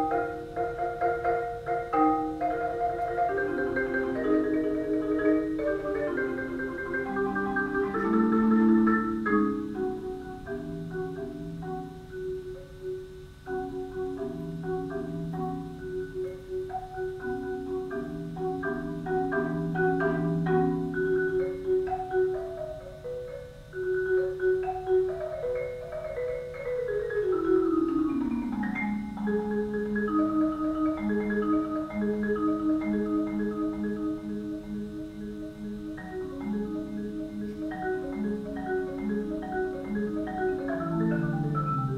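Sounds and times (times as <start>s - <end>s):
marimba playing: 0.0s - 41.9s.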